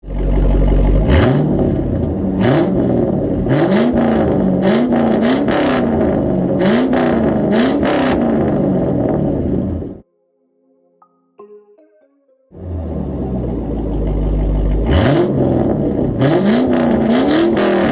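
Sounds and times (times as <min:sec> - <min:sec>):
pickup engine revving: 0:00.0 - 0:10.0, 0:12.6 - 0:17.9.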